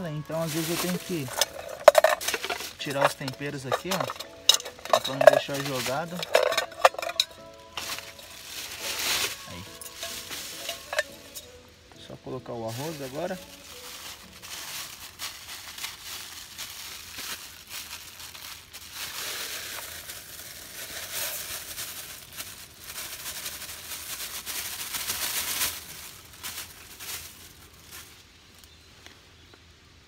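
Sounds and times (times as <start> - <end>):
rice crackling in hot oil: 0.0 - 11.5, 12.6 - 29.5.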